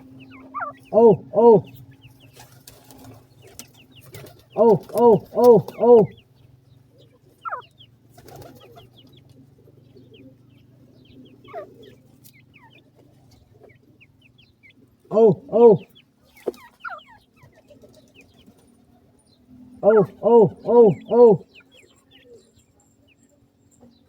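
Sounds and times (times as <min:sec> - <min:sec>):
bird calling loudly: 0:00.0 - 0:09.2, 0:09.9 - 0:13.0, 0:13.6 - 0:18.4, 0:19.8 - 0:22.5
faint high chick peeps: 0:00.0 - 0:24.0.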